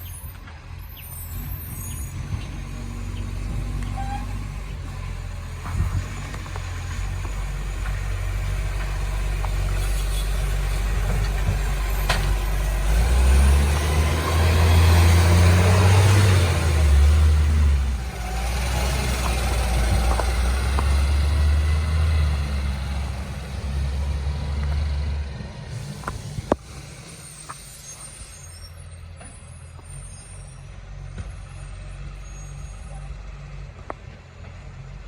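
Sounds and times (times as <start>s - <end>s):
garbage truck engine running: 0.0s - 35.0s.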